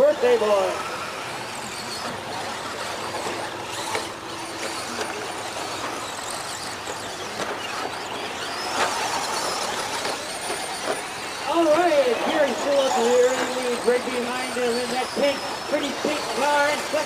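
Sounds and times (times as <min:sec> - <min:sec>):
remote control car motors whining: 0:00.0 - 0:17.0.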